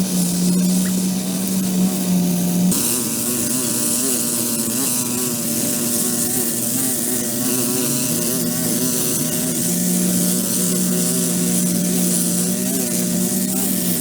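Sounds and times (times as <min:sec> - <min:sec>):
small engine buzzing: 0:00.0 - 0:14.0.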